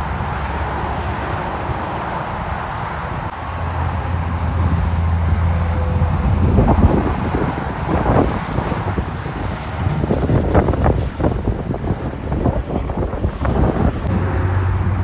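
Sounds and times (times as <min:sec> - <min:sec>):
highway traffic: 0:00.0 - 0:15.0
truck diesel engine drone: 0:00.0 - 0:15.0
wind buffeting microphone: 0:00.0 - 0:15.0.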